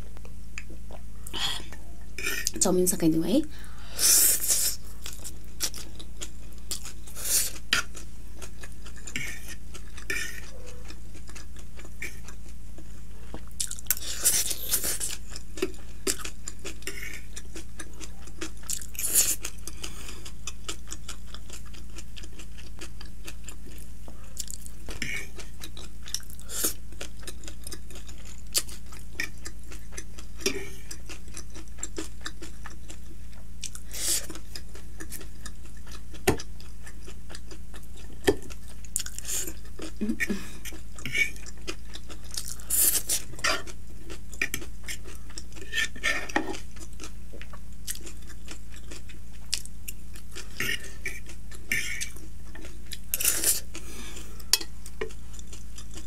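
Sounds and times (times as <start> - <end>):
chewing noodles: 4.3 - 56.0.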